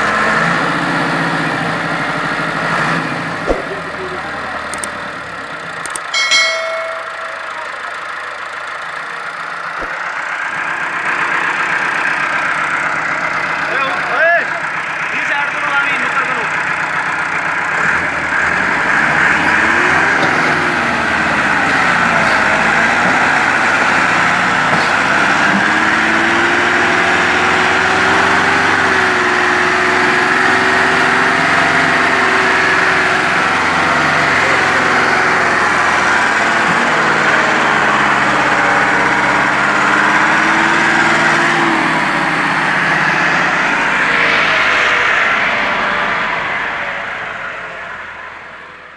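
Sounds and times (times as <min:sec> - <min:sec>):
tractor diesel engines under load: 0:00.0 - 0:48.9.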